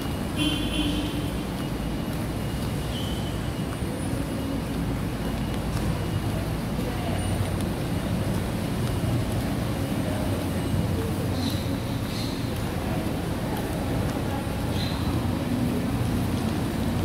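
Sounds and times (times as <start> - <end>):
buses idling and moving: 0.0 - 17.0.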